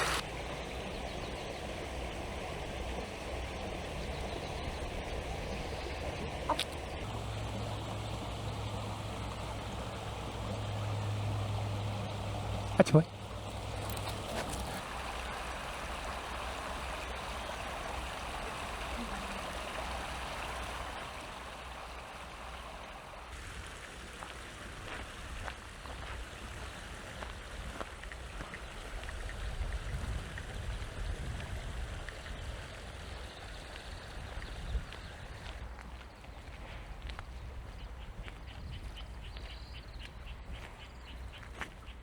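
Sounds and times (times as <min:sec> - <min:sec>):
stream water rushing: 0:00.0 - 0:34.3.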